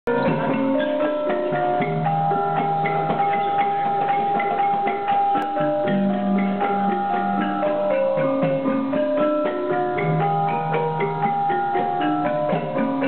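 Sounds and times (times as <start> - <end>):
kettle gongs ringing melody: 0.1 - 13.0.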